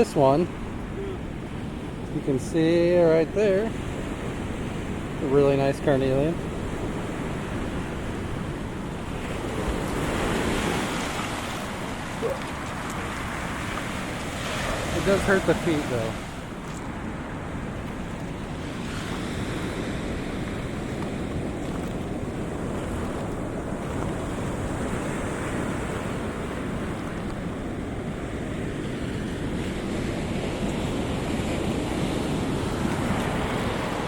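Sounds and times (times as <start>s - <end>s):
surf washing on cobble beach: 0.0s - 34.0s
wind buffeting microphone: 0.0s - 34.0s.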